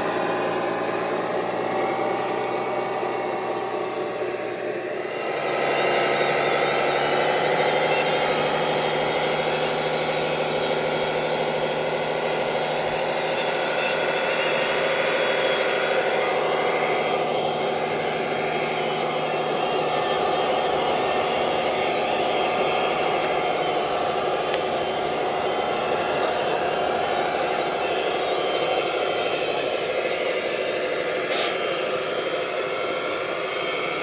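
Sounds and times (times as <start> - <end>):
model vehicle engine drone: 0.0 - 34.0.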